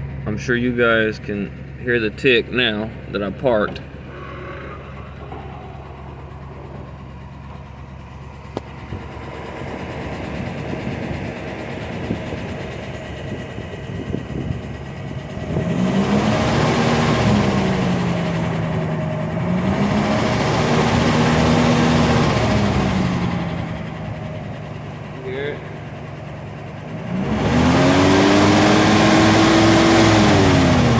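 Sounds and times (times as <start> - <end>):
car engine idling: 0.0 - 30.9
engine ticking: 0.0 - 30.9.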